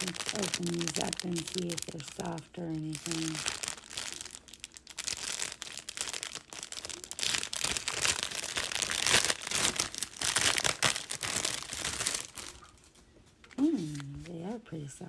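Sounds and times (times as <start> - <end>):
packaging crumpled and torn: 0.0 - 14.1.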